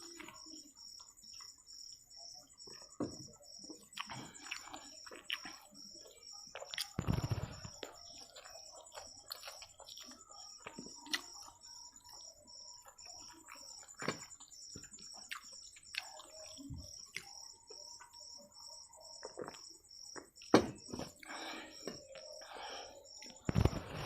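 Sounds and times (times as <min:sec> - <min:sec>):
soft chewing of noodles: 0:00.0 - 0:24.0.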